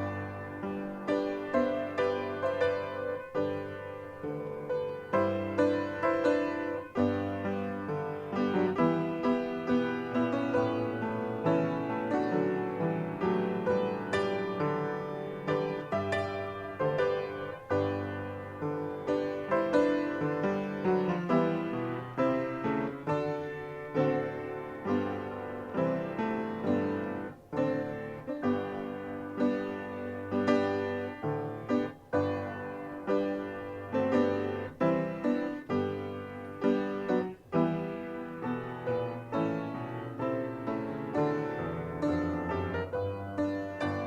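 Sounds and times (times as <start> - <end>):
slow piano-like chords: 0.0 - 44.0.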